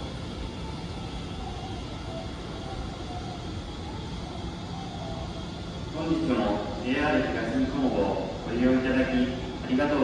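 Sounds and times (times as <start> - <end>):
station platform rumble and hum: 0.0 - 10.0.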